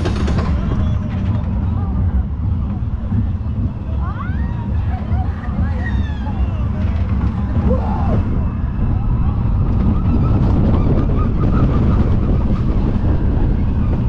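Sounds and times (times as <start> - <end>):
coaster wheels rumbling on track: 0.0 - 14.0
wind rushing over microphone: 0.0 - 14.0.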